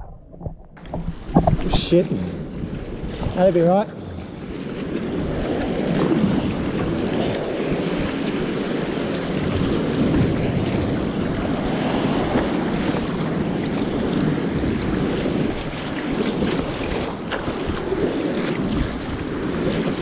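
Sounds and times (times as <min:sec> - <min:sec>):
water sloshing around kayak: 0:00.0 - 0:20.0
wind buffeting microphone: 0:00.0 - 0:20.0.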